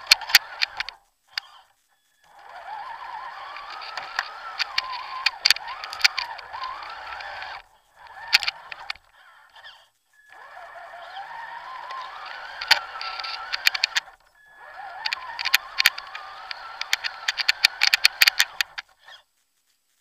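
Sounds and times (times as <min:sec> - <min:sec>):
chassis clicks and knocks: 0:00.0 - 0:01.5, 0:02.3 - 0:09.2, 0:10.3 - 0:18.9
electric motor and gearbox whine: 0:00.0 - 0:19.4.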